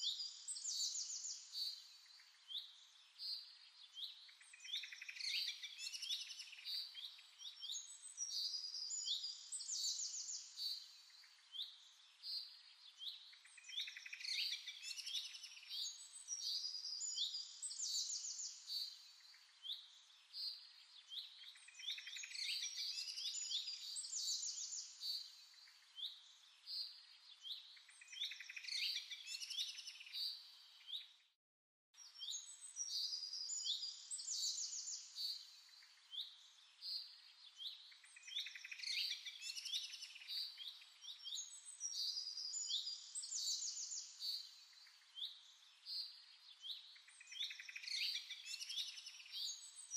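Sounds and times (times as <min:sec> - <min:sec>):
small birds chirping and twittering: 0:00.0 - 0:31.4, 0:32.0 - 0:49.9.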